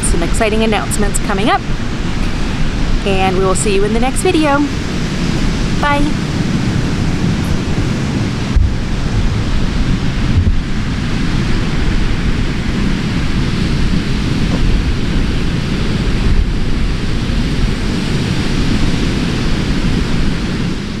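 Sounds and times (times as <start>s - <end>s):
ocean surf rushing: 0.0s - 21.0s
wind rumbling on microphone: 0.0s - 21.0s.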